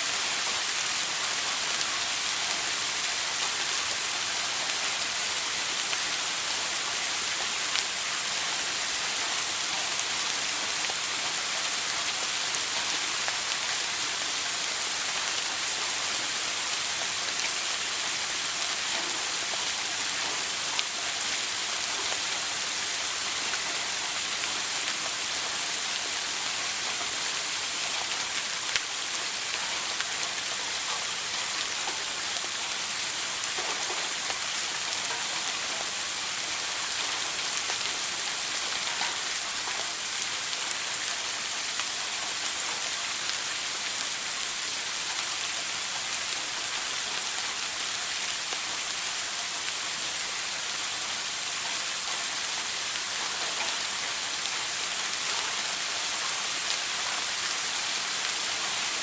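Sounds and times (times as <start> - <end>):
shower spraying on hard surface: 0.0 - 59.0
faint drip ticks: 0.4 - 59.0.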